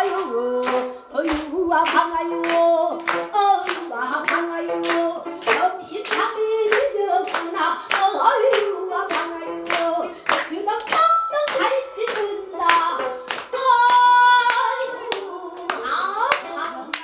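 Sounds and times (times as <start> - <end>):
person singing: 0.0 - 17.0
rhythmic hand clapping: 0.0 - 17.0.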